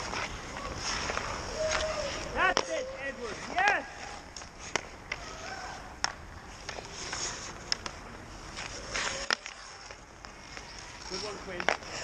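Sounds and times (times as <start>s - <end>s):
sticks striking pucks: 0.0s - 5.4s, 6.0s - 12.0s
skate blades scraping ice: 0.0s - 12.0s.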